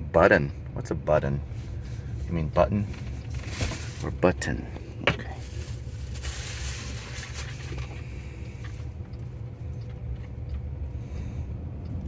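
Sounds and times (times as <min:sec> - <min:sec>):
faint steady hum: 0:00.0 - 0:12.0
low rumble inside car cabin: 0:00.0 - 0:12.0.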